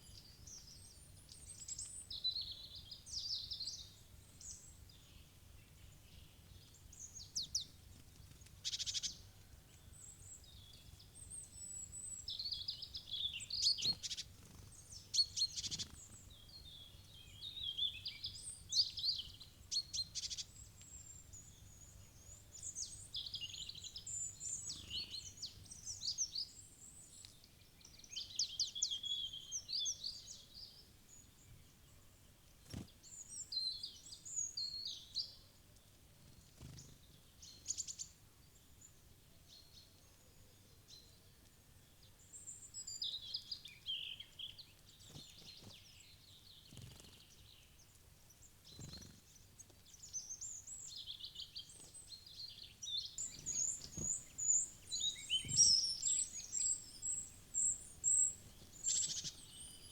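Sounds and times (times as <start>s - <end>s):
small birds chirping and trilling: 0.0s - 31.8s, 32.6s - 41.1s, 41.9s - 59.9s.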